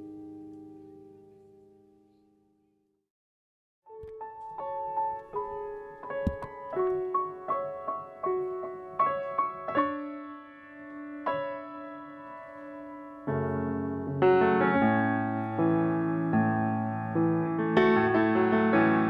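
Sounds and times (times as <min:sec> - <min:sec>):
piano playing slow melody: 0:00.0 - 0:02.6, 0:03.9 - 0:19.0.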